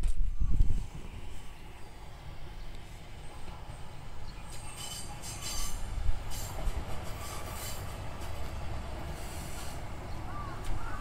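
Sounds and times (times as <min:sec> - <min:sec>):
railcar engine and wheel rumble: 0:00.0 - 0:11.0
wheels squealing on rails: 0:00.3 - 0:11.0.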